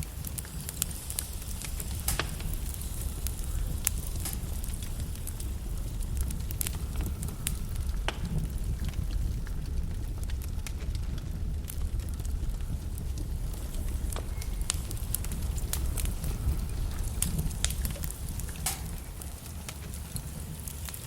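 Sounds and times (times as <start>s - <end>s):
logs crackling and popping: 0.0s - 21.0s
low rumble of flame: 0.0s - 21.0s.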